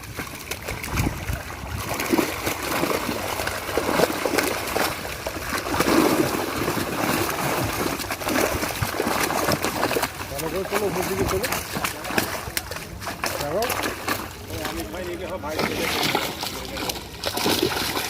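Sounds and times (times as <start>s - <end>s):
fish thrashing water splashing: 0.0s - 18.0s.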